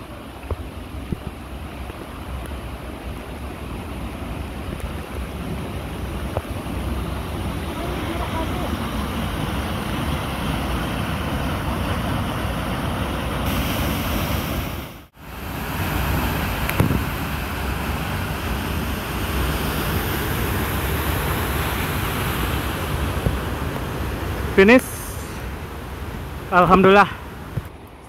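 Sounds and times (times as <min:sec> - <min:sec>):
waterfall and stream rushing: 0:00.0 - 0:28.0.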